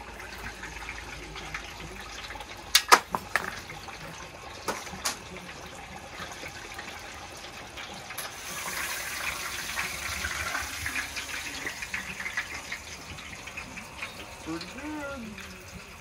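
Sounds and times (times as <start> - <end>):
hot oil bubbling and sizzling: 0.0 - 16.0.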